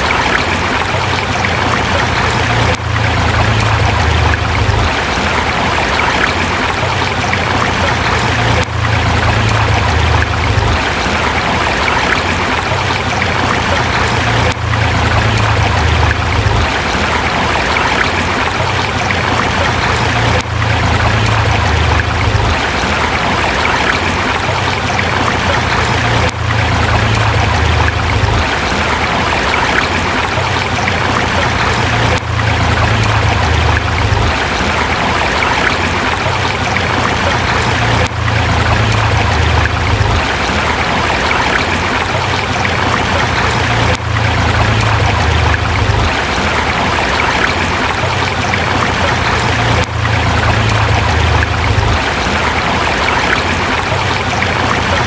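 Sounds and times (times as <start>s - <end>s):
river water running over rocks: 0.0s - 55.0s.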